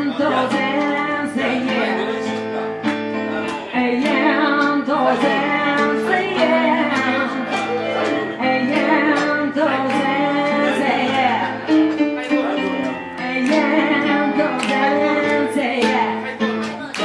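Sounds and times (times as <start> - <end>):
woman singing soul melody: 0.0 - 2.2, 3.6 - 12.2, 13.1 - 17.0
electric keyboard chords: 0.0 - 17.0.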